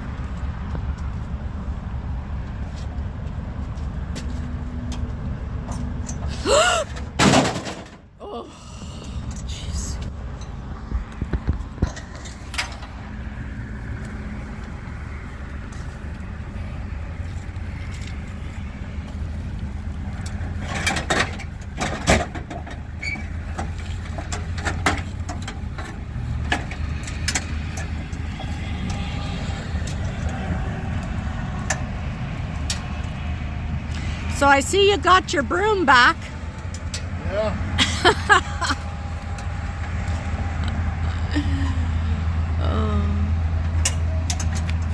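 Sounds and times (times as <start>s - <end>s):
vehicle engine idling: 8.0s - 44.9s.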